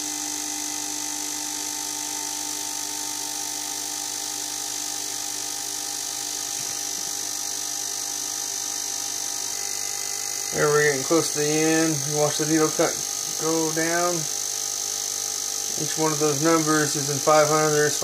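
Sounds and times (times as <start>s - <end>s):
electric fuel pump hum: 0.0s - 18.0s
fuel injector buzzing: 0.0s - 18.0s.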